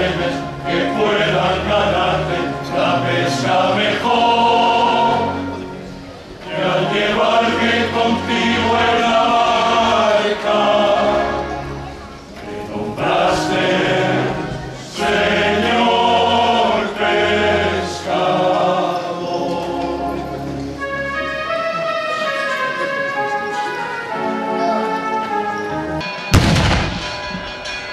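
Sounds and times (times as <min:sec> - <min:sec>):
church choir singing a hymn: 0:00.0 - 0:24.9.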